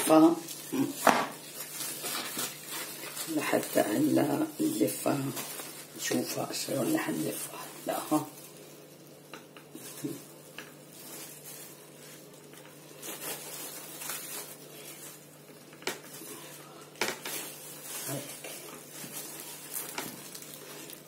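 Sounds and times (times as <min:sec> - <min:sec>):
plastic sheet crinkling: 0:00.0 - 0:21.0.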